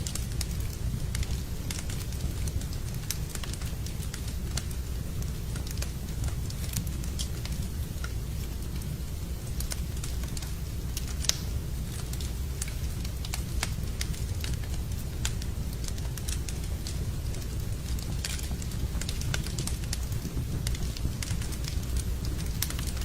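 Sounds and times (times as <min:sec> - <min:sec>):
low fire rumble: 0:00.0 - 0:23.0
wood fire crackling and popping: 0:00.0 - 0:23.0.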